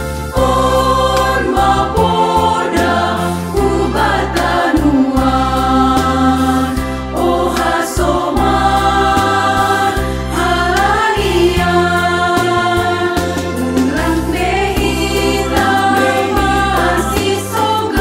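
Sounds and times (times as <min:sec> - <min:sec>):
instrumental accompaniment: 0:00.0 - 0:18.0
women's choir singing a hymn: 0:00.3 - 0:18.0.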